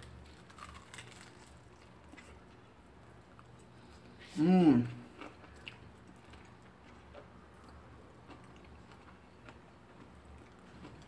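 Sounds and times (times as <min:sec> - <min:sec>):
chewing crispy food: 0:00.0 - 0:04.1, 0:04.8 - 0:11.0
low steady hum: 0:00.0 - 0:11.0.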